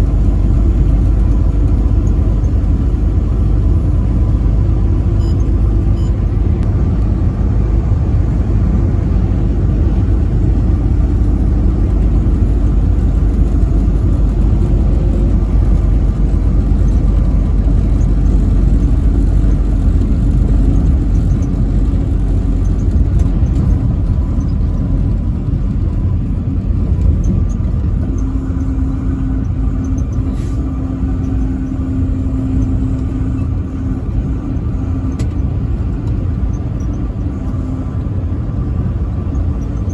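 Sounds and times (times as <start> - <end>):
steady hum: 0.0 - 39.1
truck engine and road rumble: 0.0 - 39.9.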